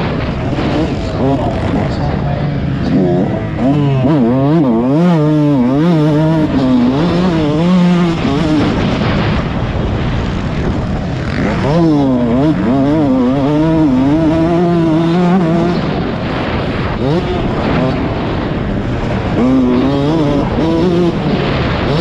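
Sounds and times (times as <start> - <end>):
motorbike engine revving: 0.0 - 22.0
rushing noise: 0.0 - 22.0.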